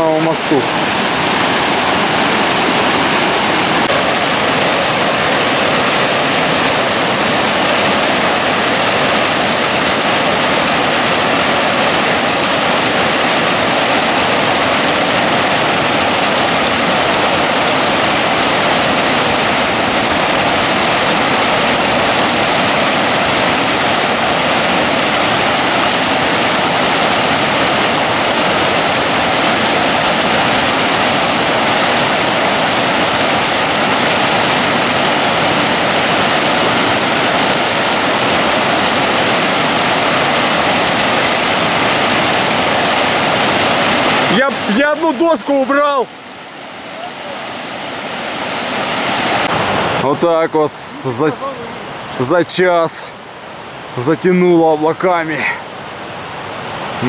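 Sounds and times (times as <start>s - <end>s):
river rapids rushing over rocks: 0.0s - 57.0s.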